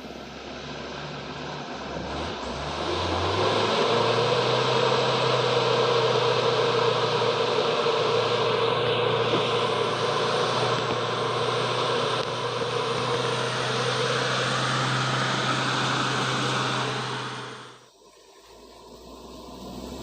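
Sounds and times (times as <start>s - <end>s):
diesel truck engine droning: 0.0s - 17.9s.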